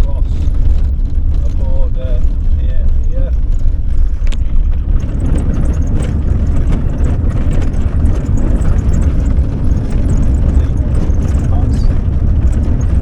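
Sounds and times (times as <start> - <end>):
campervan driving rumble: 0.0 - 13.0
faint ticks over rough road: 0.0 - 13.0.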